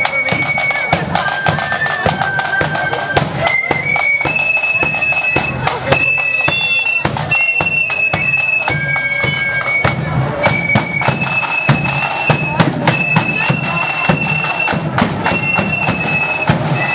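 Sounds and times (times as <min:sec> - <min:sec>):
flute band playing: 0:00.0 - 0:16.9
snare drum strokes: 0:00.0 - 0:16.9.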